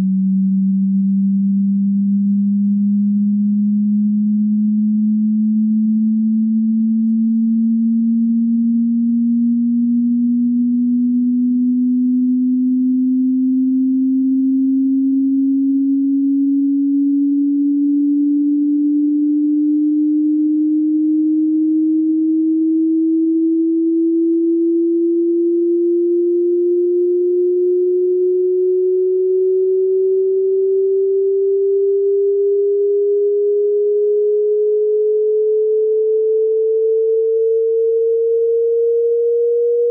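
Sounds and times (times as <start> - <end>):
rising pure test tone: 4.3 - 39.9.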